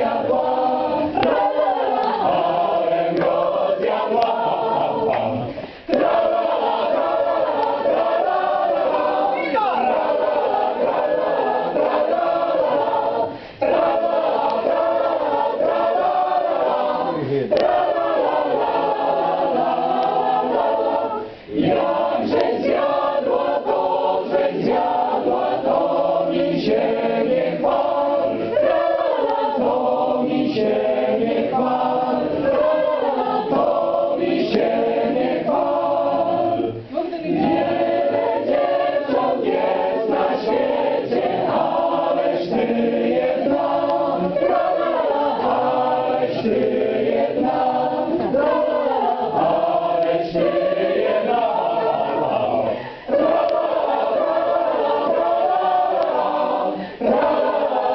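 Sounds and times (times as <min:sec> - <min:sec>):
choir singing: 0:00.0 - 0:57.9.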